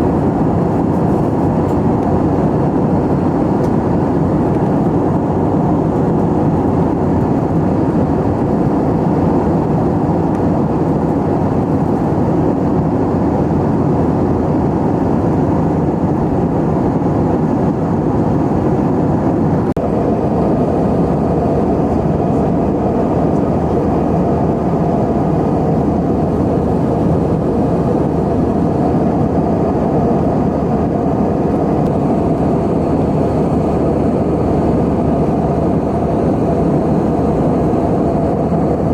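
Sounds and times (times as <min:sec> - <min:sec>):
airflow past fuselage: 0:00.0 - 0:38.9
airplane cabin engine rush: 0:00.0 - 0:38.9.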